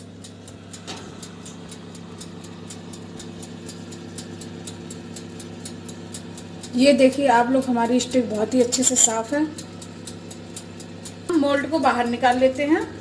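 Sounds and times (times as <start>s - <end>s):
mechanical timer ticking: 0.0s - 13.0s
oven motor hum: 0.0s - 13.0s.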